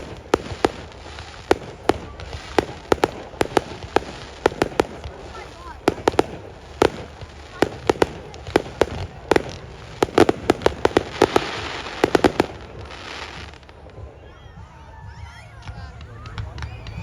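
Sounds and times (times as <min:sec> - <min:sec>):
fireworks bangs: 0:00.0 - 0:17.0
fireworks crackling fizz: 0:00.0 - 0:17.0.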